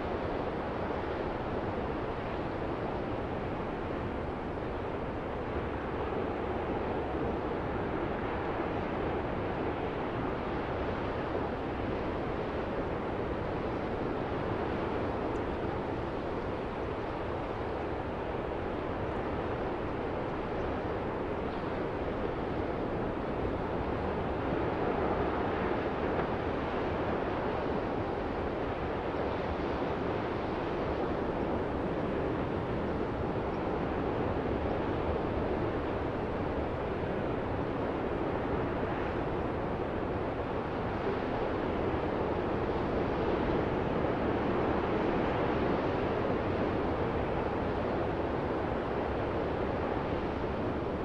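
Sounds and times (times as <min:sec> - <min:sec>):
waves breaking on a beach: 0:00.0 - 0:51.0.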